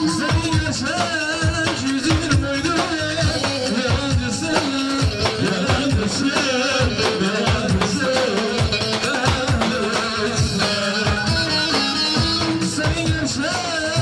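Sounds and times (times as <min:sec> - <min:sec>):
folk dance music: 0:00.0 - 0:14.0
ornamented melody line: 0:00.0 - 0:14.0
steady drumbeat: 0:00.0 - 0:14.0.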